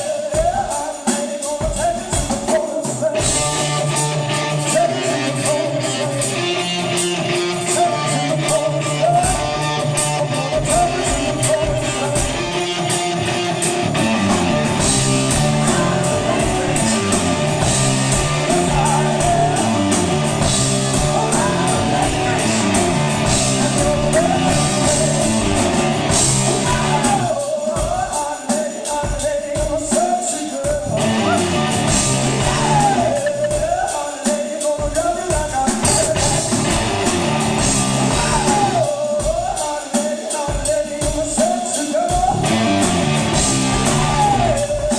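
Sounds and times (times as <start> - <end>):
person singing: 0.0 - 44.9
rock band playing live: 0.0 - 44.9
electric guitar: 1.7 - 28.1, 30.5 - 34.0, 35.3 - 39.3, 42.0 - 44.9.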